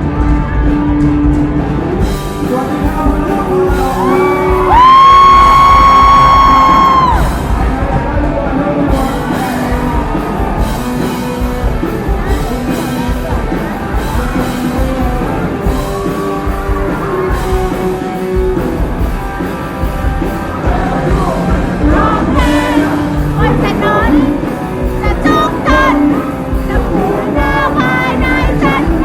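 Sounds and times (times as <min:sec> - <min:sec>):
guitar: 0:00.0 - 0:29.0
steady drum beat: 0:00.0 - 0:29.0
person singing: 0:01.9 - 0:18.3, 0:20.2 - 0:29.0.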